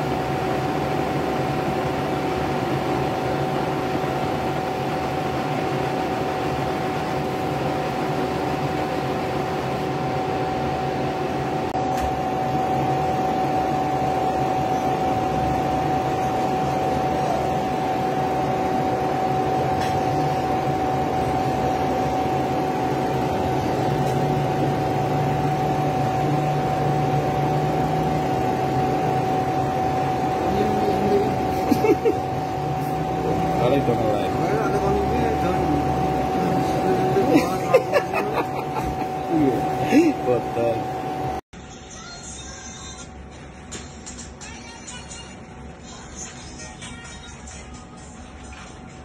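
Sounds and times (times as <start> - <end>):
motor hum with constant whine: 0.0 - 49.0.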